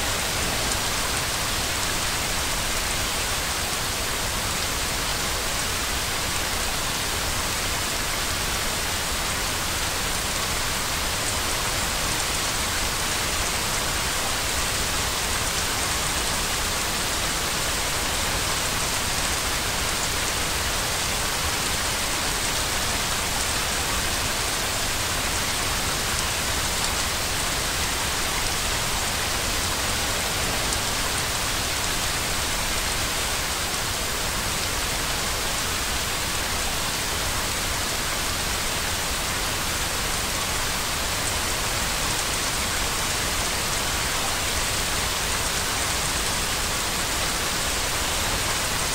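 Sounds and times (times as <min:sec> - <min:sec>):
white noise hiss: 0:00.0 - 0:48.9.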